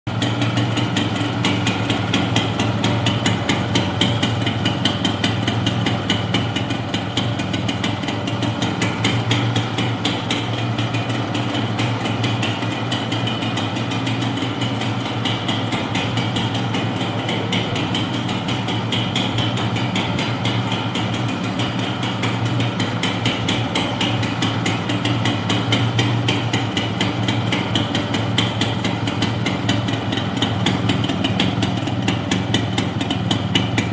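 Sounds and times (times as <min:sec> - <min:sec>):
two-stroke engine idling: 0:00.1 - 0:33.9.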